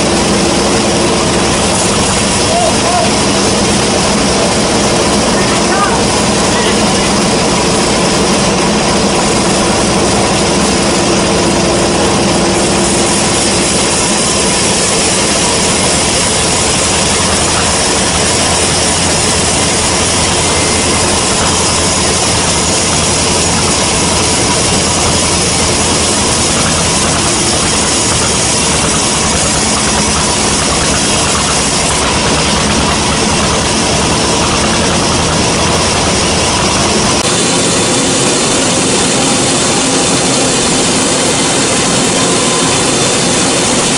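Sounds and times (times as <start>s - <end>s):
band saw running: 0.0s - 43.9s
machine hum: 0.0s - 43.9s.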